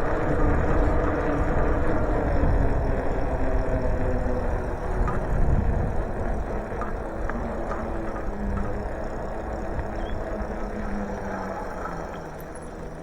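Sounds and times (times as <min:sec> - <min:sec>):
bicycle road noise: 0:00.0 - 0:13.0
motor vehicle engine hum: 0:00.0 - 0:13.0
wind rumbling on microphone: 0:00.0 - 0:13.0.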